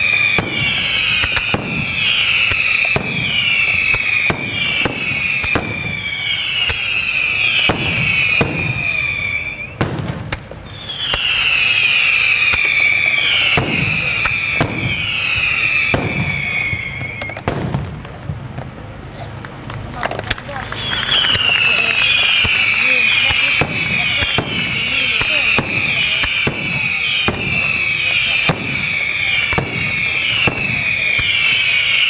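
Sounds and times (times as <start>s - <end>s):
fireworks bangs: 0.0s - 32.0s
fireworks whistling: 0.0s - 32.0s.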